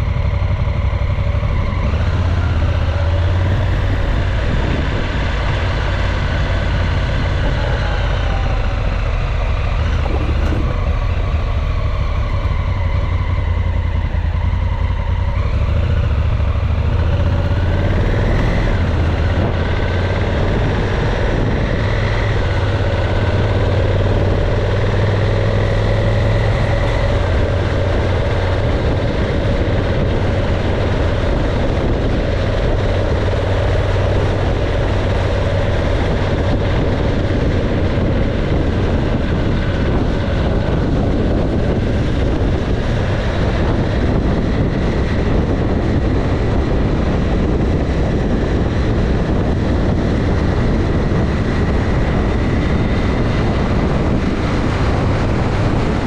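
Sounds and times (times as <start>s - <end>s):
motorcycle engine drone: 0.0s - 56.0s
wind and road noise: 0.0s - 56.0s.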